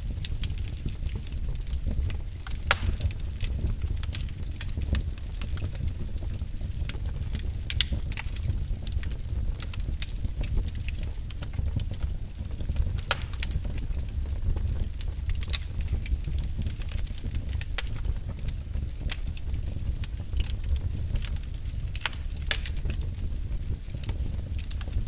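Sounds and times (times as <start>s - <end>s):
fire crackling and popping: 0.0s - 25.0s
low rumble of fire: 0.0s - 25.0s.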